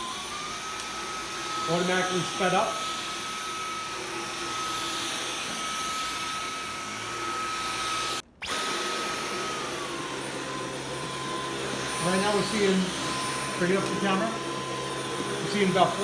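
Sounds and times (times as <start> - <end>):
cordless vacuum running: 0.0 - 16.0.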